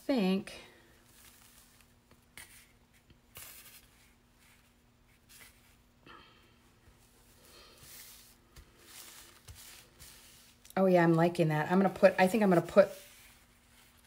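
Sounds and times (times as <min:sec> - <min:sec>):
faint steady hum: 0:00.0 - 0:14.0
paper napkin rustling: 0:00.9 - 0:05.9, 0:07.0 - 0:14.0.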